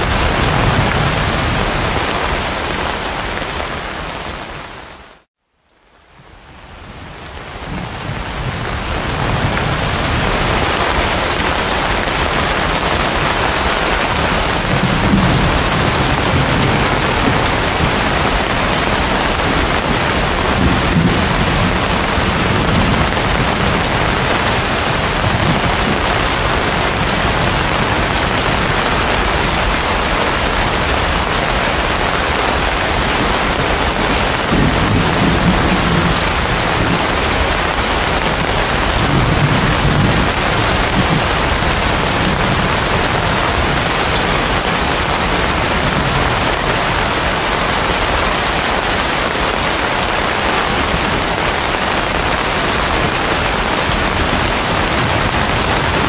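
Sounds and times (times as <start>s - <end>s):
thunder rumbles: 0.0s - 4.2s, 7.0s - 56.0s
heavy rain on leaves: 0.0s - 56.0s.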